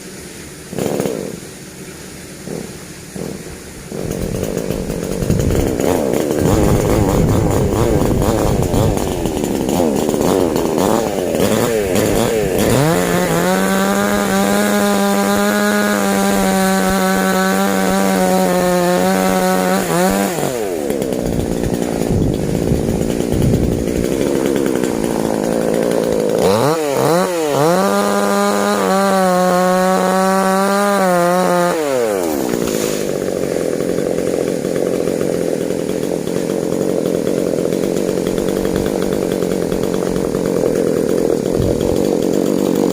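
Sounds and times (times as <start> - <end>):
chainsaw revving: 0.6 - 1.5, 2.3 - 42.9.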